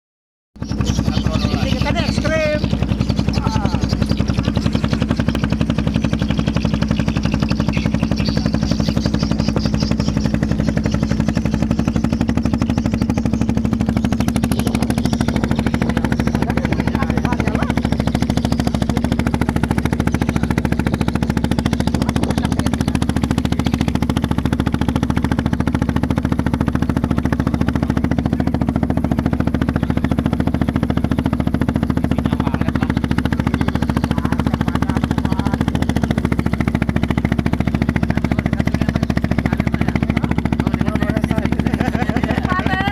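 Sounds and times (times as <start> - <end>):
boat engine knocking: 0.6 - 42.9.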